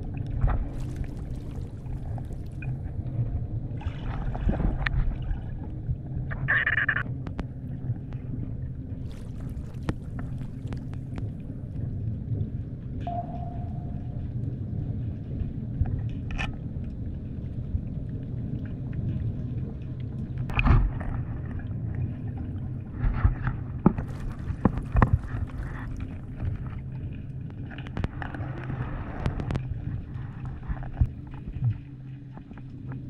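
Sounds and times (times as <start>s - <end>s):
muffled underwater rumble: 0.0s - 33.0s.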